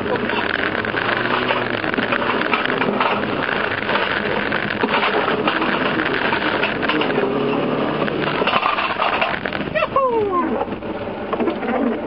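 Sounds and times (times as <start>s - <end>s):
loose items rattling: 0.0s - 10.0s
car engine under load: 0.0s - 12.0s
road noise: 0.0s - 12.0s.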